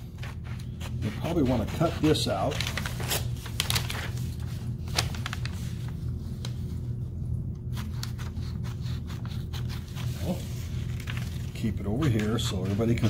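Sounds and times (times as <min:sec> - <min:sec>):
low room hum: 0:00.0 - 0:13.0
paper and scissors clicks and rustles: 0:00.2 - 0:06.6, 0:07.8 - 0:13.0.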